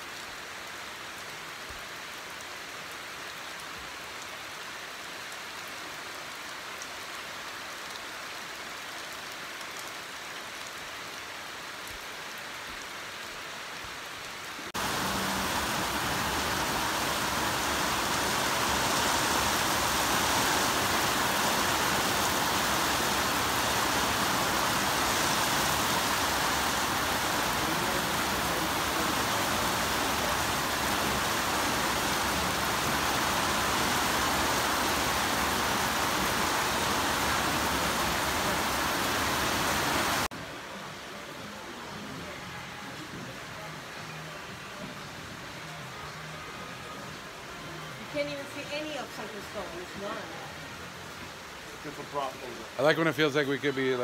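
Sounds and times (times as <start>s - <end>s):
rain on metal roof: 0.0s - 54.0s.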